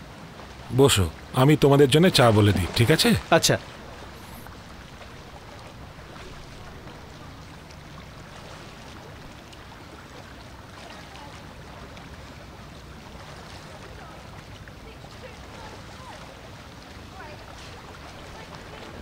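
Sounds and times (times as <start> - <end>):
swimming pool water lapping: 0.0 - 19.0.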